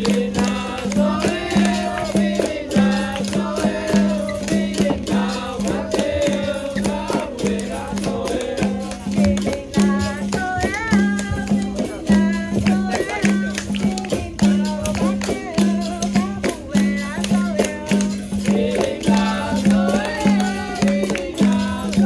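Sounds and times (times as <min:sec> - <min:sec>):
group singing with lead voice: 0:00.0 - 0:22.0
percussion: 0:00.0 - 0:22.0
shaken rattle: 0:00.0 - 0:22.0.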